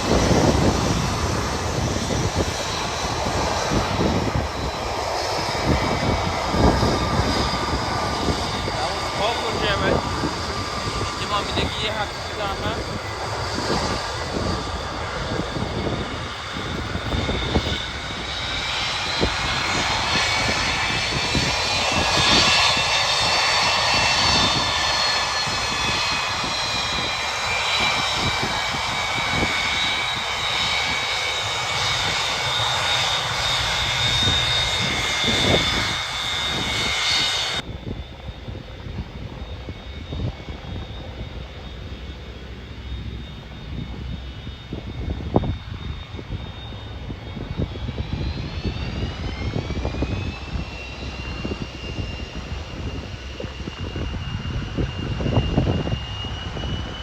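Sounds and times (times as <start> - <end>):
jet engines running with high whine: 0.0 - 57.0
wind rumbling on microphone: 0.0 - 57.0.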